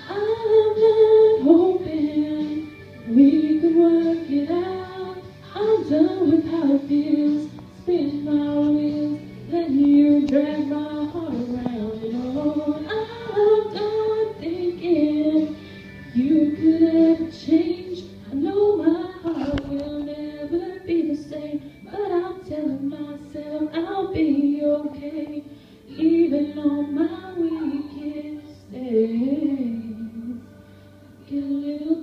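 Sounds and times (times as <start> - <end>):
woman singing into a microphone: 0.0 - 32.0.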